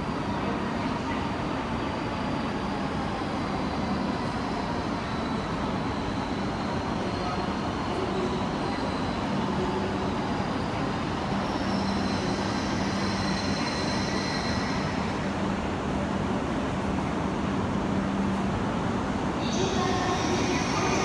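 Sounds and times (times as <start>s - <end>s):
train high whine: 0.0s - 21.0s.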